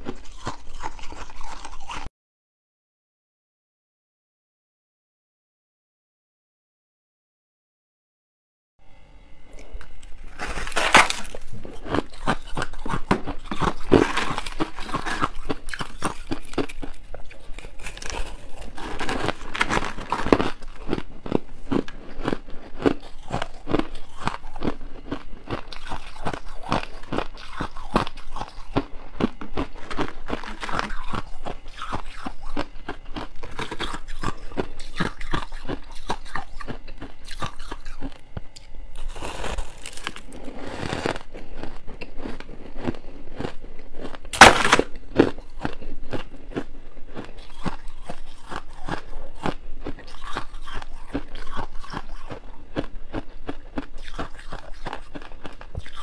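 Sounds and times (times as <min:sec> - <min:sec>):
chewing frost ice crunching: 0:00.0 - 0:02.1, 0:09.5 - 0:56.0.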